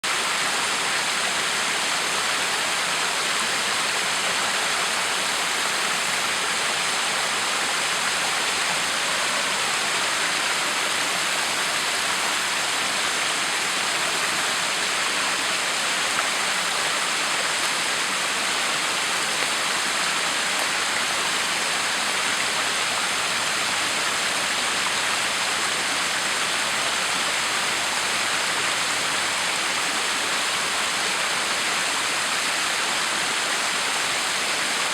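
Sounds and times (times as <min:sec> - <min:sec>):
waterfall splashing: 0:00.0 - 0:34.9.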